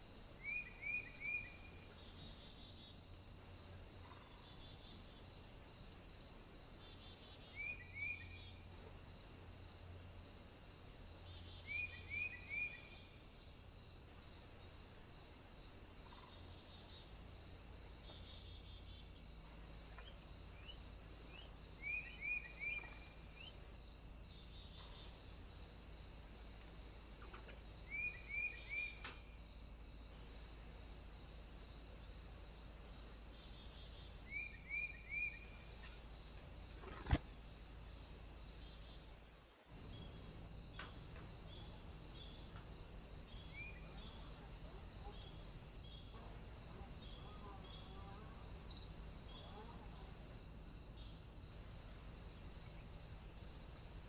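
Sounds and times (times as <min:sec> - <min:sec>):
steady high hiss: 0:00.0 - 0:54.0.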